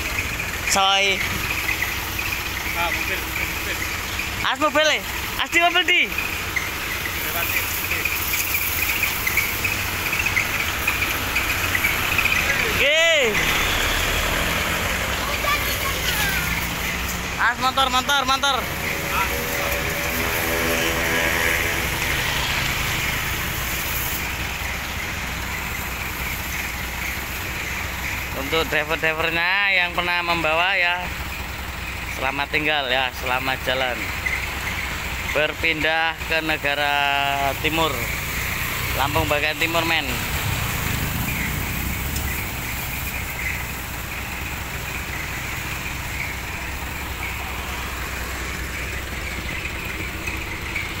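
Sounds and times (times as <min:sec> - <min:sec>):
bus engine idling: 0:00.0 - 0:51.0
garden hose spraying water: 0:00.0 - 0:51.0.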